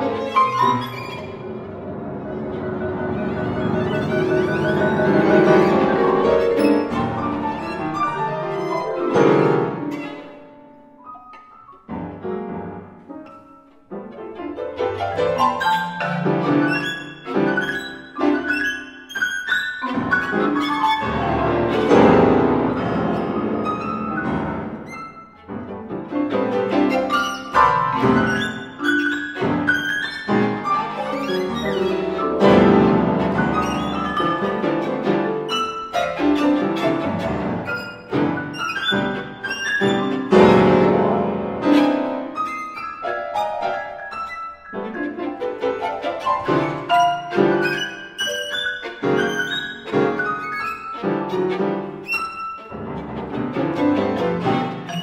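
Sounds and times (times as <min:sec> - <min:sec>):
bowed violin: 0:00.0 - 0:55.0
piano notes: 0:00.0 - 0:55.0.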